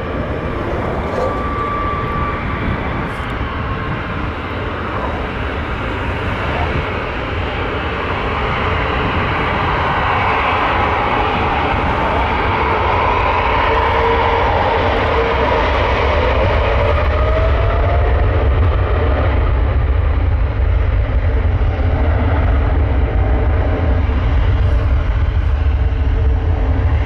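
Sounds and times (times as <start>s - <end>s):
jet engine whine: 0.0s - 27.0s
jet engines rushing: 0.0s - 27.0s.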